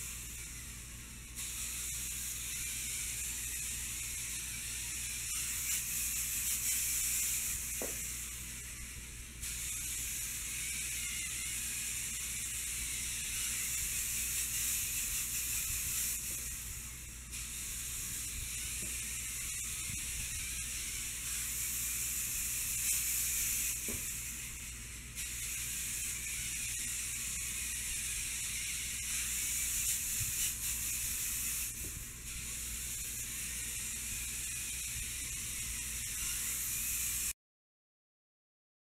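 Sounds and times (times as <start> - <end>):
steady hiss: 0.0 - 37.4.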